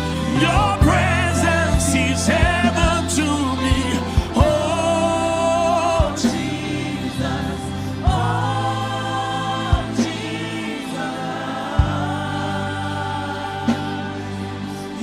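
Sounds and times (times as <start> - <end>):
choir singing long notes: 0.0 - 15.0
low bass: 0.0 - 15.0.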